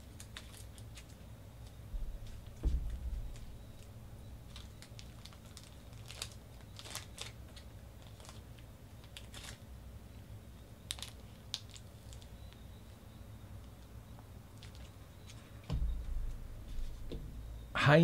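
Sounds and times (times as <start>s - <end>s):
faint clicks and crinkles: 0.0s - 9.7s, 10.6s - 13.0s, 13.6s - 17.7s
low steady hum: 0.0s - 18.0s.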